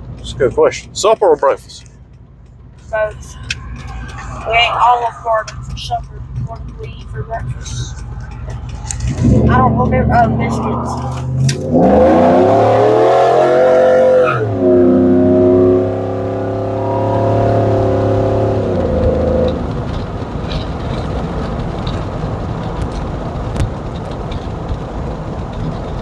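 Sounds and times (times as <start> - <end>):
pickup engine revving: 0.0 - 22.9
road and tyre noise: 0.0 - 26.0.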